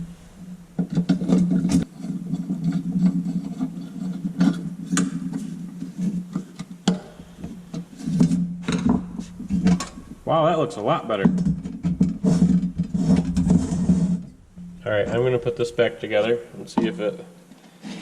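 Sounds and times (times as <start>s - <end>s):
steady low hum: 0.0s - 4.4s, 6.8s - 17.6s.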